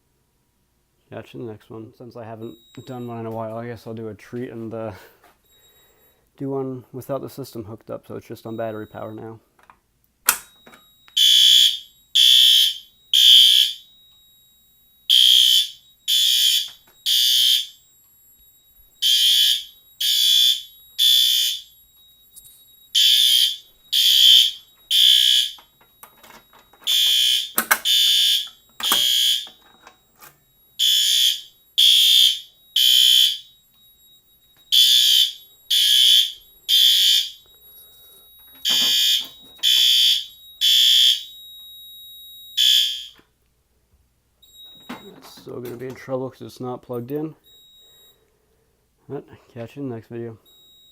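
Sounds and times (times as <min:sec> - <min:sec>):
smoke alarm beeping: 0:02.2 - 0:09.6, 0:10.2 - 0:43.4, 0:44.4 - 0:48.9, 0:50.4 - 0:50.9.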